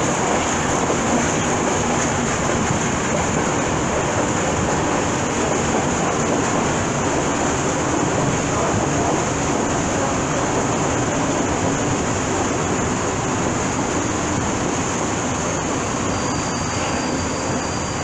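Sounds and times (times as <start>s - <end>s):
freight train wheels rumbling on rail: 0.0s - 18.0s.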